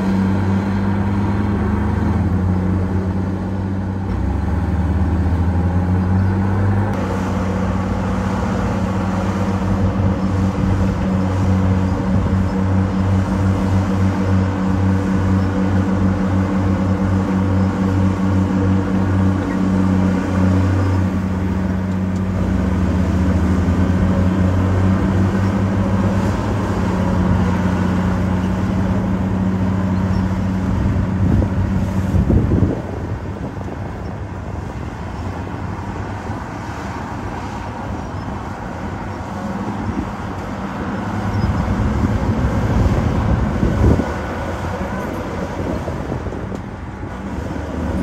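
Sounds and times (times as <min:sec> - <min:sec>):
bulldozer diesel engines running: 0:00.0 - 0:48.0.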